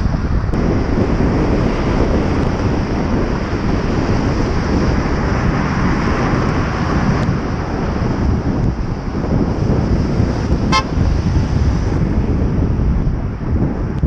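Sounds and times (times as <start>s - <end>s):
road and traffic noise: 0.0s - 14.0s
wind buffeting microphone: 0.0s - 14.0s.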